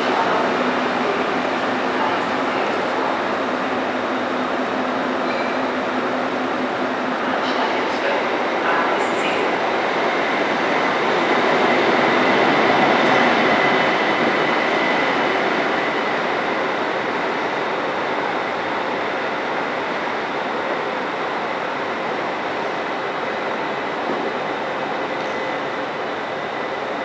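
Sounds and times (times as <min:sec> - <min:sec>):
train rumbling past on rails: 0:00.0 - 0:27.0.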